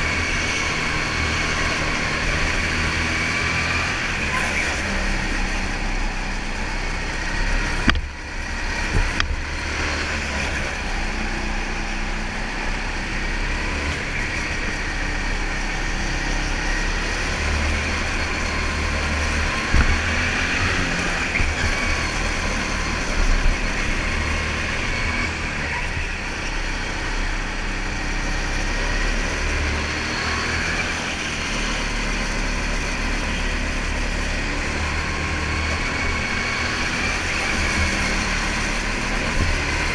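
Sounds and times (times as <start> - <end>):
go-kart engine hum: 0.0 - 39.9.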